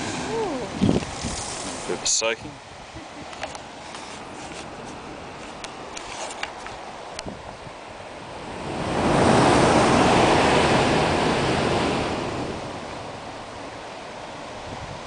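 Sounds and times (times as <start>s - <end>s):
ocean surge breaking on rocks: 0.0s - 15.0s.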